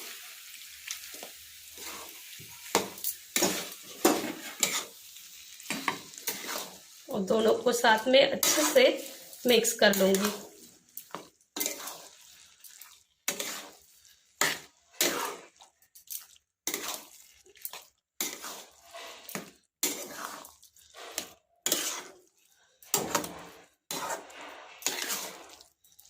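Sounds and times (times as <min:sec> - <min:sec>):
spoon scraping a cooking pan: 0:00.1 - 0:26.0.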